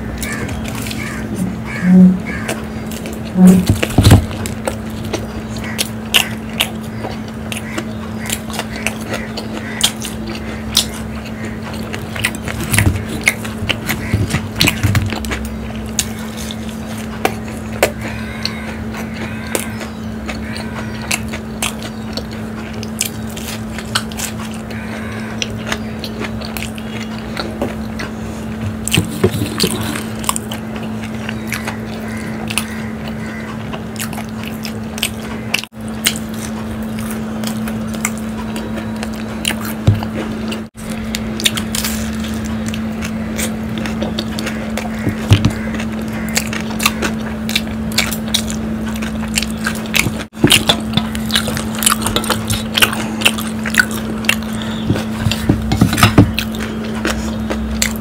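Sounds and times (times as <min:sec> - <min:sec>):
crunchy chewing: 0:00.0 - 0:58.0
low electrical hum: 0:00.0 - 0:58.0.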